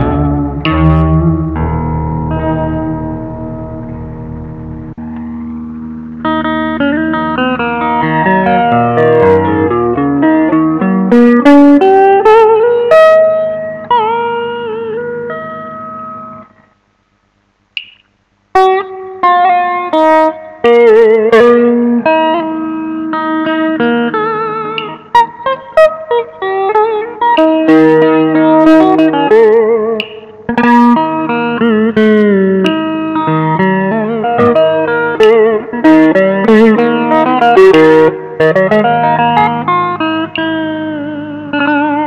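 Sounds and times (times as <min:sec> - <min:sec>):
electric guitar lead melody: 0:00.0 - 0:16.6, 0:18.6 - 0:42.0.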